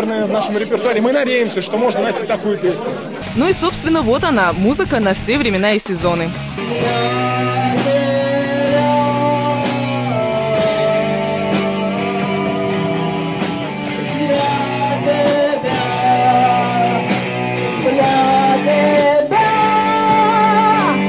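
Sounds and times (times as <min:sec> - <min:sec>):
bass guitar: 0:03.2 - 0:21.0
drums: 0:03.2 - 0:21.0
electric guitar: 0:03.2 - 0:21.0.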